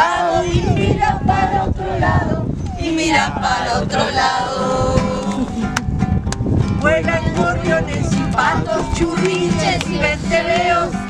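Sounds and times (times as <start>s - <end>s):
group singing: 0.0s - 5.8s, 6.8s - 11.0s.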